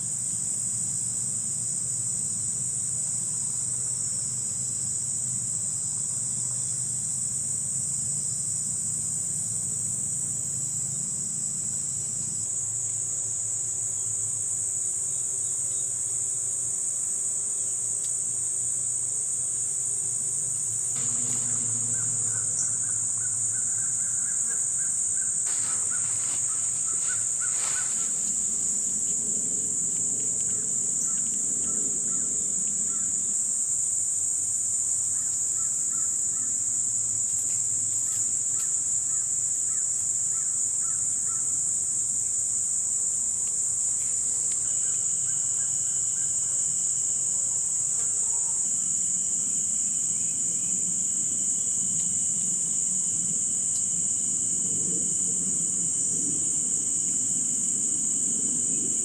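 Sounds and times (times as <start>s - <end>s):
chorus of evening insects: 0.0s - 59.0s.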